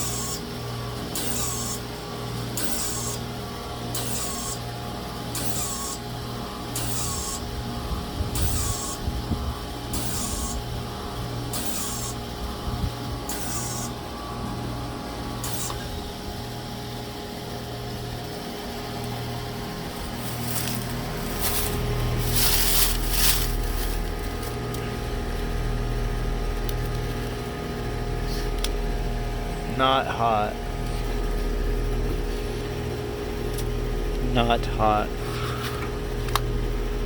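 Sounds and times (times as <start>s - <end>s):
heat pump pulsing hum: 0.0s - 37.0s.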